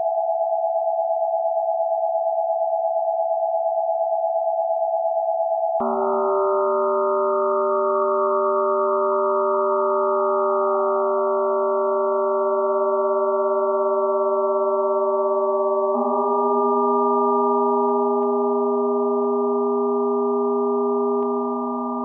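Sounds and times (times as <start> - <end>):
electronic sine tone drone: 0.0 - 22.0.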